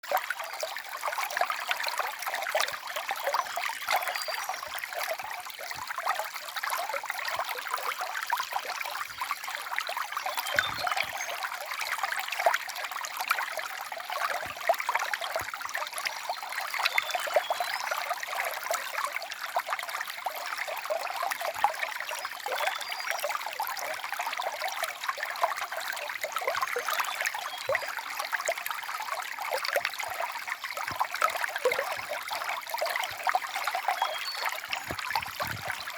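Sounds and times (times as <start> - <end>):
stream water trickling: 0.0 - 35.9.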